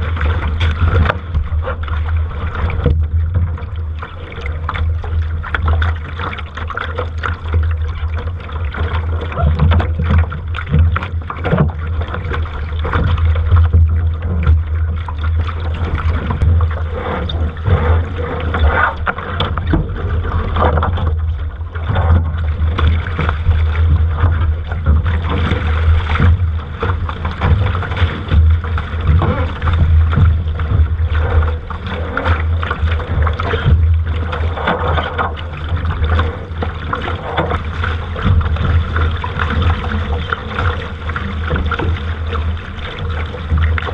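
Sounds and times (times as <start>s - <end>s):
water splashing against boat: 0.0s - 43.9s.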